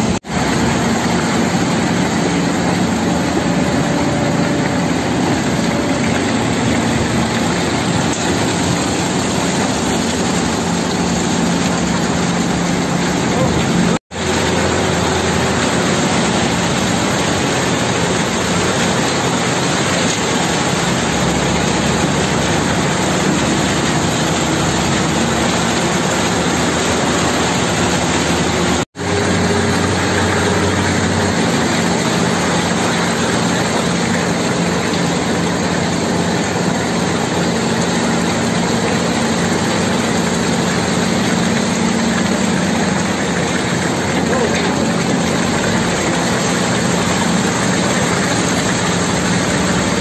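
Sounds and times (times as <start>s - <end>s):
diesel truck engine running: 0.0s - 50.0s
wet concrete pouring: 0.0s - 50.0s.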